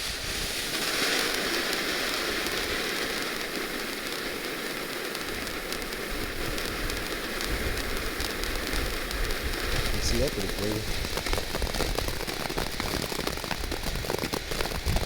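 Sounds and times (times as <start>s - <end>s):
firework fountain hissing: 0.0s - 15.0s.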